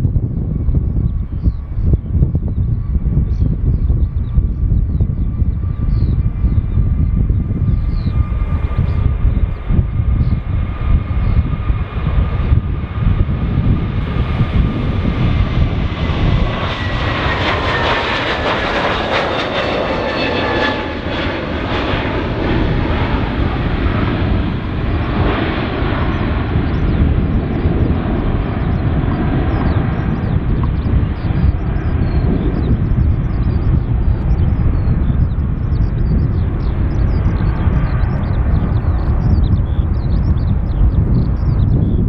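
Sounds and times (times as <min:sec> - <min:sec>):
jet engines rumbling at takeoff: 0:00.0 - 0:42.0.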